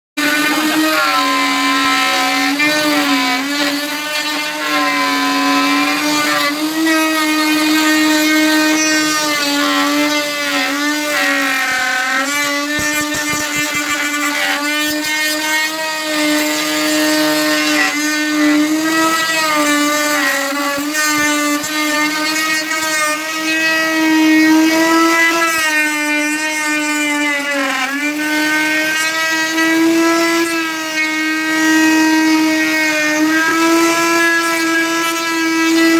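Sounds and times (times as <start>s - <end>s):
power tool motor humming: 0.2s - 35.9s.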